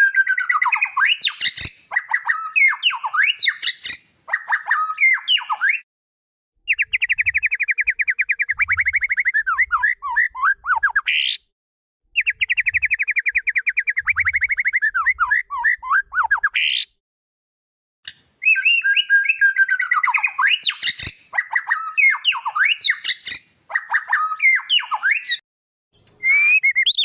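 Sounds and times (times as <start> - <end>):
songbird whistled singing: 0.0 - 5.8, 6.7 - 11.4, 12.2 - 16.9, 18.1 - 25.4, 26.0 - 27.0.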